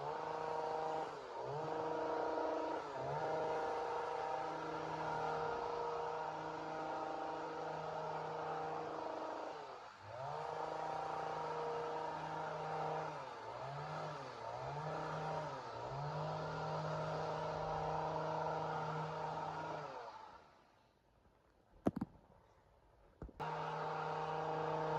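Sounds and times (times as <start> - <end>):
chainsaw engine at high revs: 0.0 - 20.5, 23.4 - 24.9.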